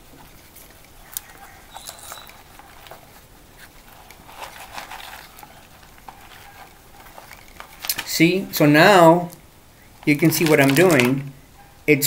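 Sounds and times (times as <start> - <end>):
faint rustling of moss: 0.0 - 11.8.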